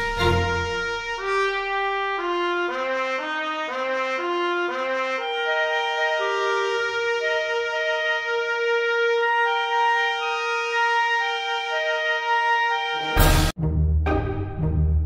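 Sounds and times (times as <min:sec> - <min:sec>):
instrumental background melody: 0:00.0 - 0:15.0.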